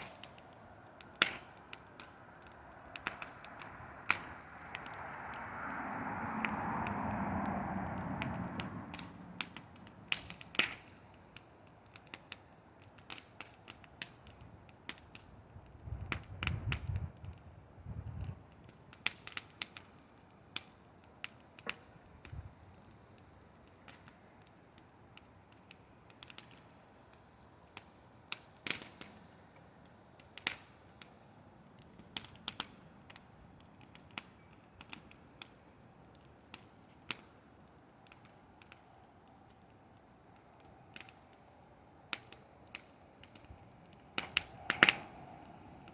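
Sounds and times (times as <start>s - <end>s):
bonfire crackling: 0.0s - 45.9s.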